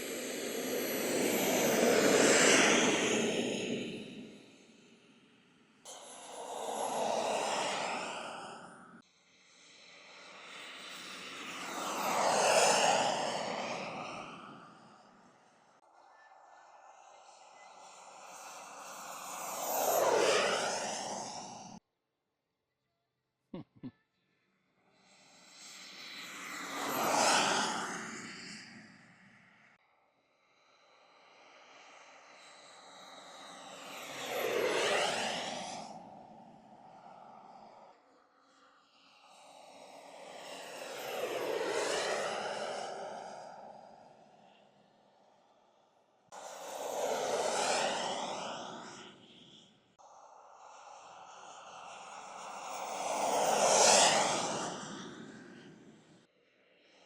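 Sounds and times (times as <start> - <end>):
model aircraft engine passing: 0.0 - 4.9, 5.9 - 21.8, 25.0 - 29.4, 30.5 - 57.0.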